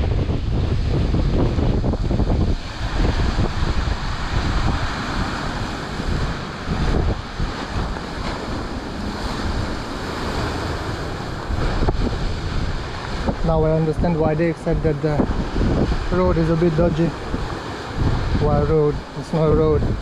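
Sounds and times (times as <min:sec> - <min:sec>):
ocean surf: 0:00.0 - 0:20.0
wind buffeting microphone: 0:00.0 - 0:20.0.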